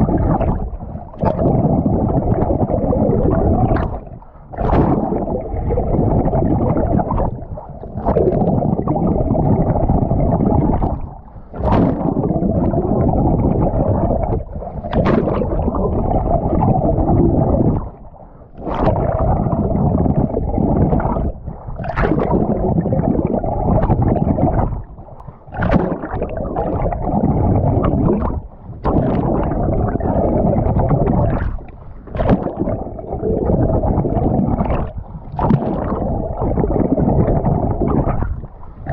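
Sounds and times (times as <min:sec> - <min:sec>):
muffled water churning and gurgling: 0:00.0 - 0:38.9.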